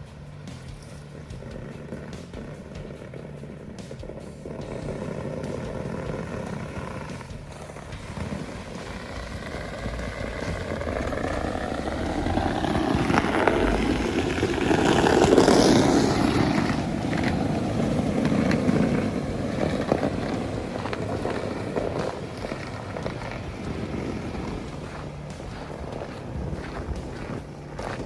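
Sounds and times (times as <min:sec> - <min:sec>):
truck driving on snow: 0:00.0 - 0:28.0.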